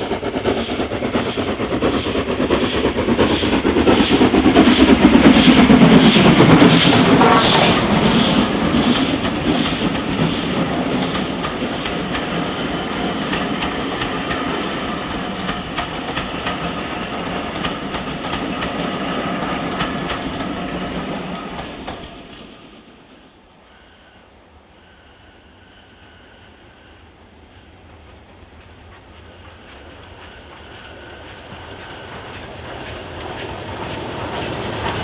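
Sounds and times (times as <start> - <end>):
train wheels clicking over rail joints: 0.0 - 22.5, 28.1 - 35.0
steam locomotive exhaust beats: 0.0 - 22.8, 24.8 - 35.0.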